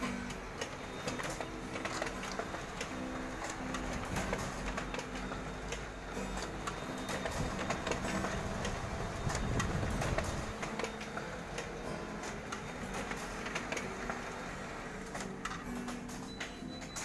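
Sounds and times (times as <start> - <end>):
photocopier clicks: 0.0 - 17.0
photocopier fan humming: 0.0 - 17.0.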